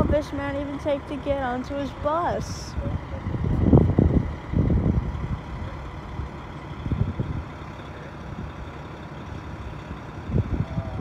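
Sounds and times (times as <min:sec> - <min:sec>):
diesel bus engine idling: 0:00.0 - 0:11.0.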